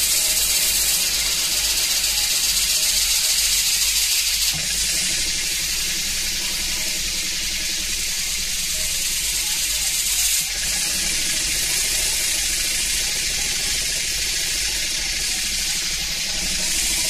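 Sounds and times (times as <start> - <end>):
compressed air hissing: 0.0 - 17.0
model engine rattling: 0.0 - 17.0.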